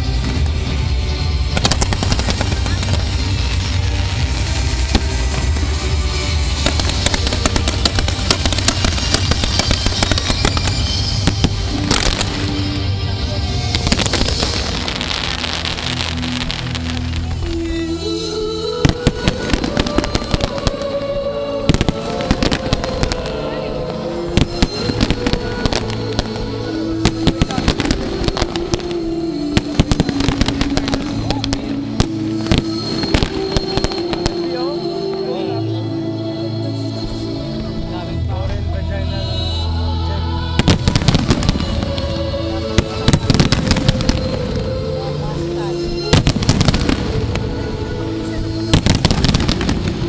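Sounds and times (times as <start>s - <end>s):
fireworks crackling and popping: 0.0s - 35.6s, 40.6s - 50.0s
loud music: 0.0s - 50.0s.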